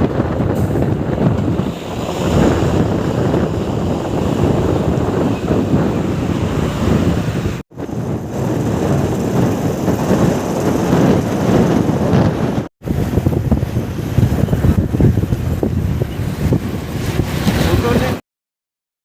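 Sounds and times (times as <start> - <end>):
wind buffeting microphone: 0.0 - 18.2.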